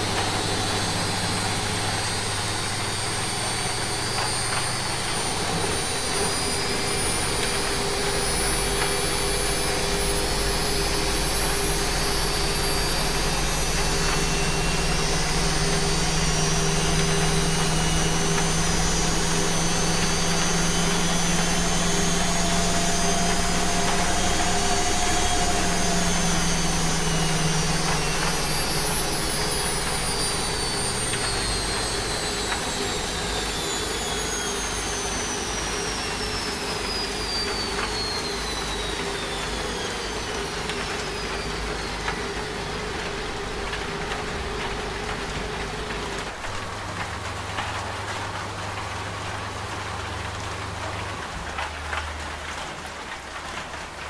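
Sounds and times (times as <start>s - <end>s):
motor whine falling in pitch: 0.0s - 54.0s
washing machine hum: 0.0s - 54.0s.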